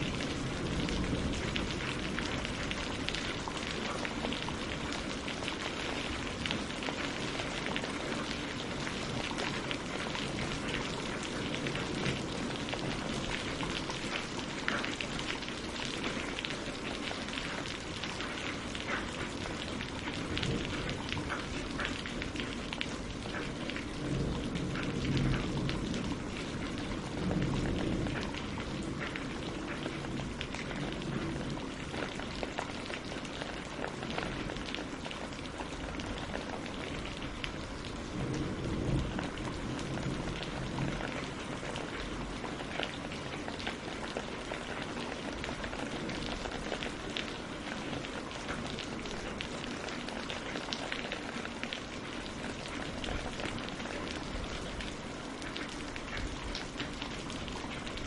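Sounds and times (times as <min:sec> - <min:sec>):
rain on leaves and water: 0:00.0 - 0:58.0.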